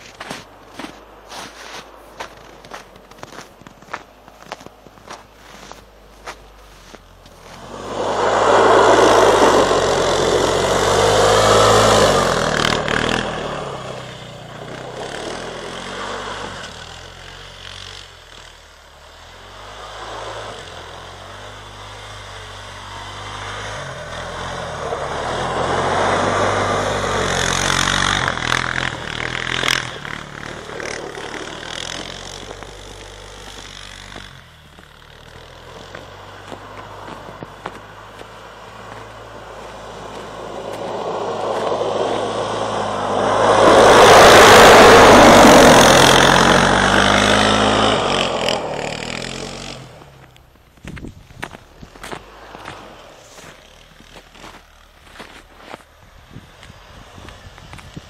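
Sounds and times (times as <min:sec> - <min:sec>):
quad bike engine revving: 0:06.8 - 0:58.0.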